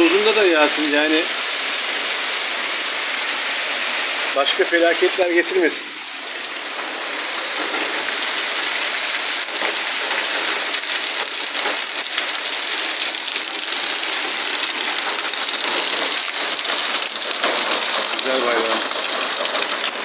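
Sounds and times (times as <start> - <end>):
heavy rain on hard surfaces: 0.0 - 20.0.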